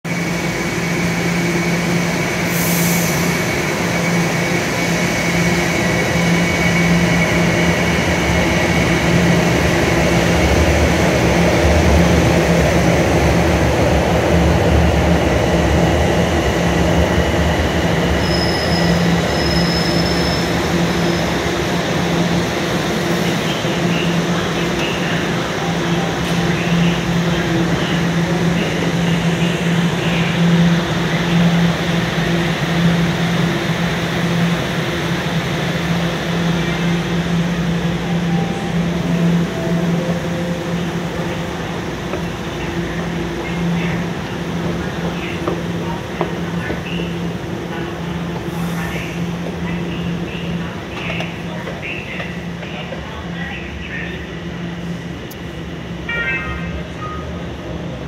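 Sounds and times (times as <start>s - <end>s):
subway rumble and hum: 0.0s - 58.0s.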